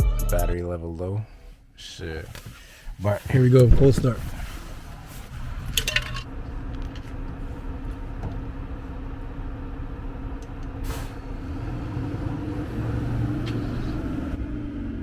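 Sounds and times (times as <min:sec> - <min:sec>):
car engine starting and idling: 0:01.4 - 0:15.0.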